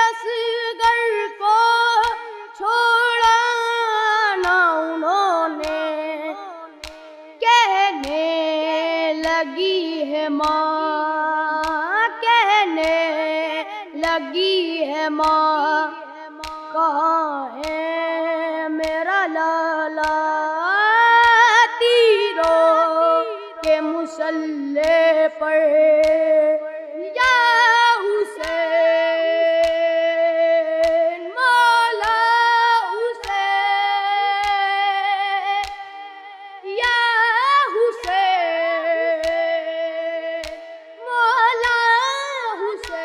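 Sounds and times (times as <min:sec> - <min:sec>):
boy singing: 0:00.0 - 0:43.0.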